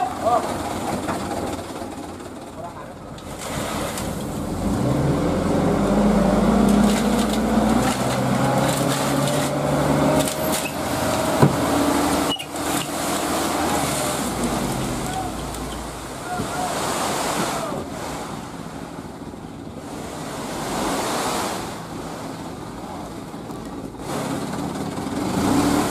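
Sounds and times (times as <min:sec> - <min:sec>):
truck engine revving: 0:03.3 - 0:25.9.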